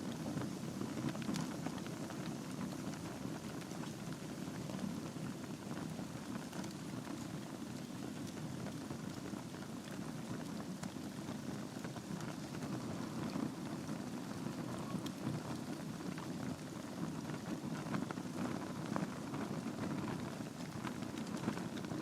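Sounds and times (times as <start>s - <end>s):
burning logs crackling and popping: 0.0s - 22.0s
fire rushing: 0.1s - 22.0s.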